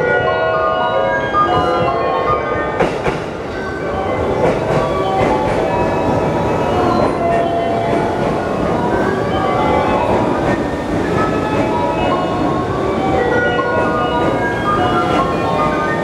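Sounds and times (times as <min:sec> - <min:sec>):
electric train rolling rumble: 0:00.0 - 0:16.0.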